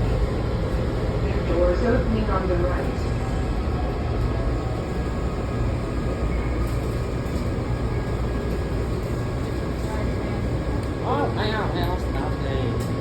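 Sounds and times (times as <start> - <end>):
train car rumble and hum: 0.0 - 13.0.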